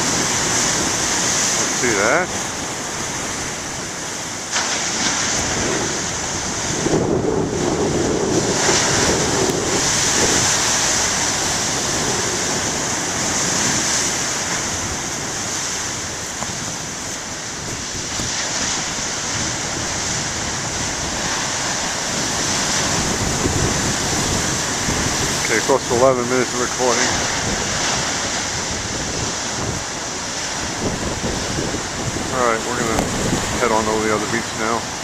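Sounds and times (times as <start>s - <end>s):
ocean waves breaking: 0.0s - 35.0s
wind on microphone: 0.0s - 35.0s.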